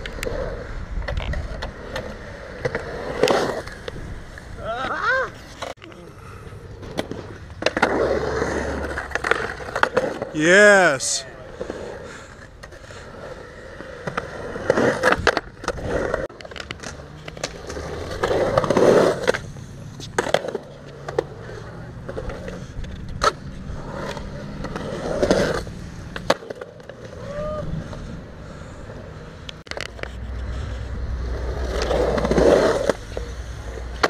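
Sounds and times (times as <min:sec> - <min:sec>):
skateboard wheels rolling on concrete: 0:00.0 - 0:34.0.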